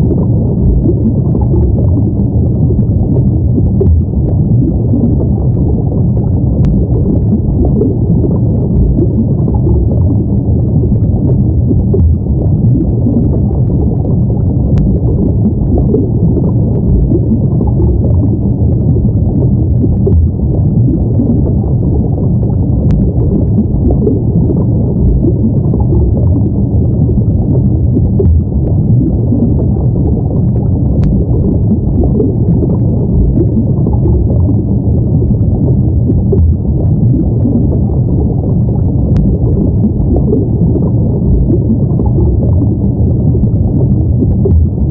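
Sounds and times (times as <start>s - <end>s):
muffled underwater rumble: 0.0s - 44.9s.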